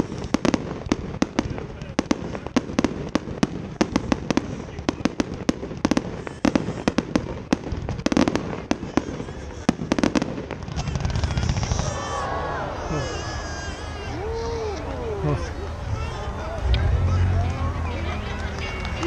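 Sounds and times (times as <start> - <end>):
fireworks cracking and banging: 0.0 - 14.7, 17.6 - 19.0
heavy firework bursts: 0.0 - 16.6.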